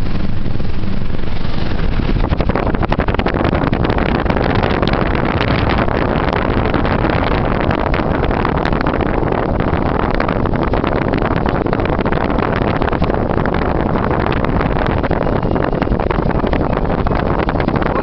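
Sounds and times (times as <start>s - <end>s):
car road and engine noise: 0.0s - 18.0s
wind buffeting microphone: 0.0s - 18.0s.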